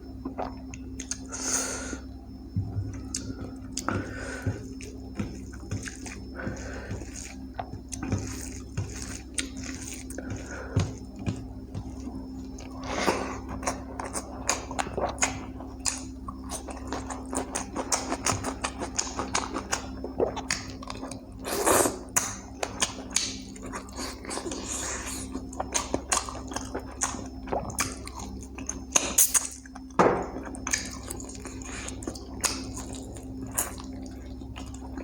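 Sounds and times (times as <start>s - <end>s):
steady low hum: 0.0s - 35.0s
wet chewing sounds: 0.1s - 35.0s.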